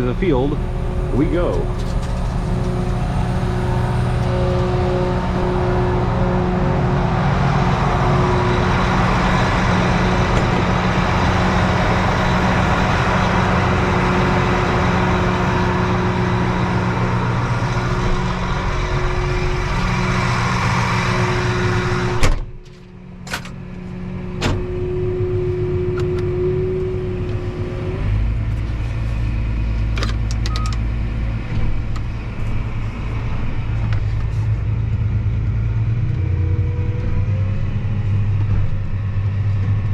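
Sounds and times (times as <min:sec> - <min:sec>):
deep engine rumble: 0:00.0 - 0:39.9
tractor engine running: 0:00.0 - 0:39.9.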